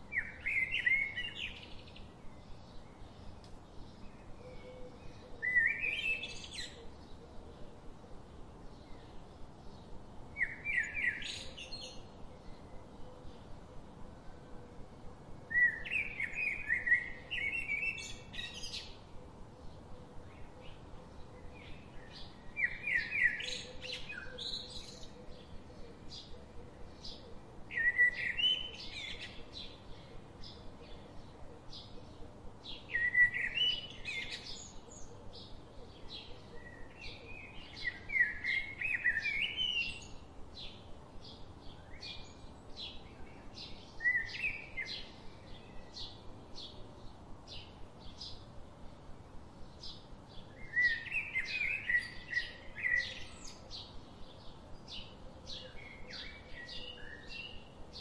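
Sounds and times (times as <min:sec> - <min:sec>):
songbirds warbling: 0:00.0 - 0:58.0.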